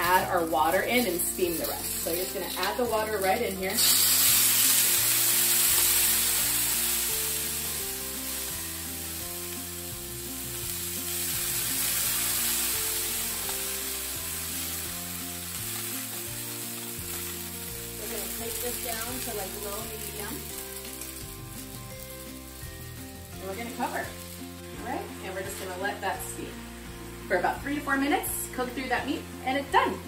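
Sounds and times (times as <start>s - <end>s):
water hissing in hot oil: 0.0s - 30.0s.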